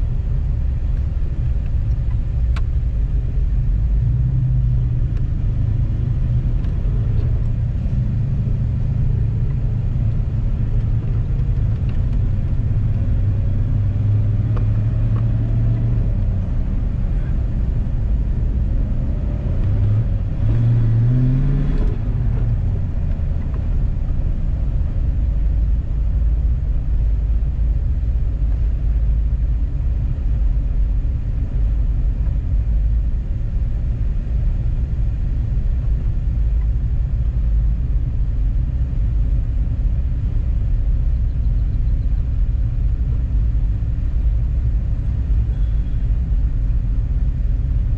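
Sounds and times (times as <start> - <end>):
car engine running: 0.0 - 47.9
road rumble: 0.0 - 47.9.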